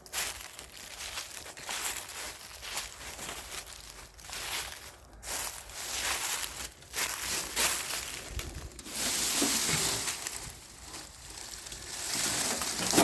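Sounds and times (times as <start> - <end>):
footsteps crunching through dry leaves: 0.0 - 13.0.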